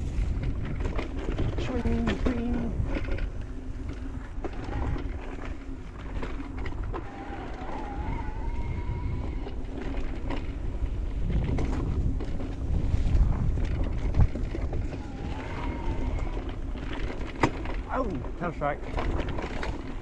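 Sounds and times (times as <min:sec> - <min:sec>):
bike chain and frame rattling: 0:00.0 - 0:20.0
wind buffeting: 0:00.0 - 0:20.0.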